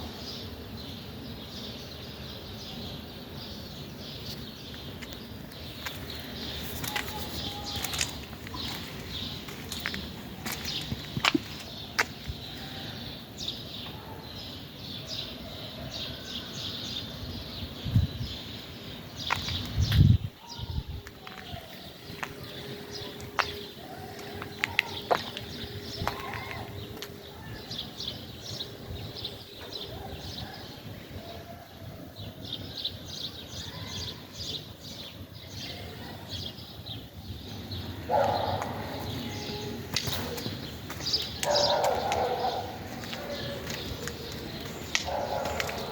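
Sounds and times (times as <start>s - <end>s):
birds chirping and singing: 0.3s - 45.9s.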